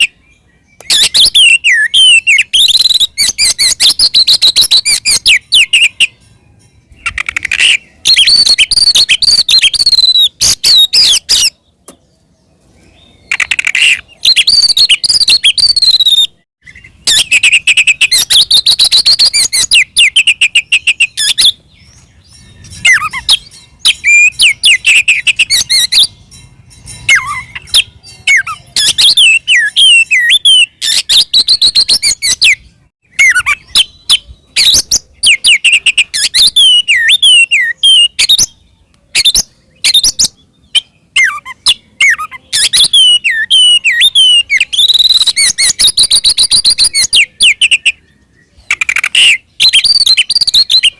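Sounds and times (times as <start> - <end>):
bird singing whistles and chatters: 0.0 - 12.0, 12.7 - 50.9.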